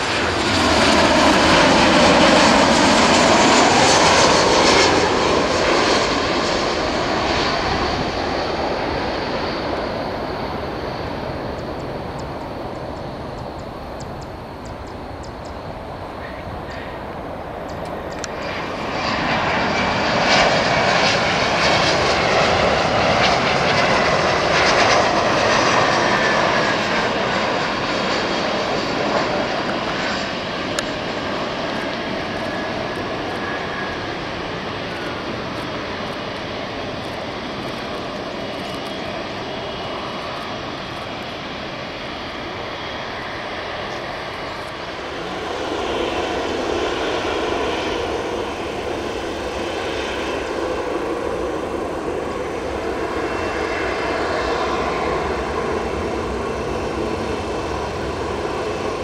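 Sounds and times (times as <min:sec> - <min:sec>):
jet engines whining and rumbling: 0:00.0 - 0:59.0.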